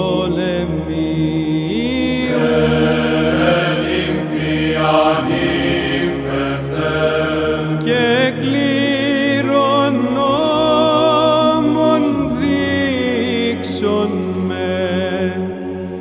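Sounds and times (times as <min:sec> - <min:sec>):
men chanting melody: 0:00.0 - 0:15.4
held vocal drone: 0:00.0 - 0:16.0.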